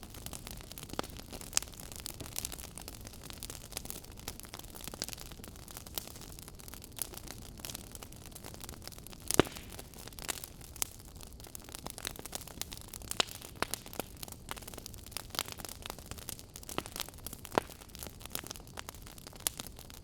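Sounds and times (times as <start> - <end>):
low rumble of fire: 0.0 - 20.0
wood fire crackling: 0.0 - 20.0.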